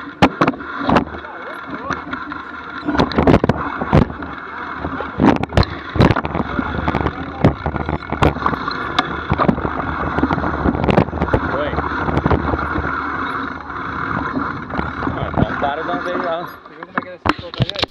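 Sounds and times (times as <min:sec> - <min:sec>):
bike knocking and rattling: 0:00.0 - 0:17.9
bike rolling on dirt trail: 0:00.0 - 0:17.9.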